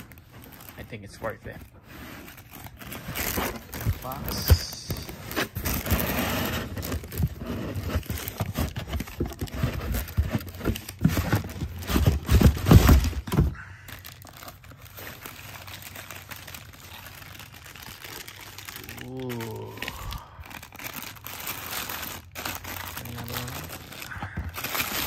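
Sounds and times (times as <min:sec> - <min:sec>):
tissue paper crinkling: 0:00.0 - 0:25.0.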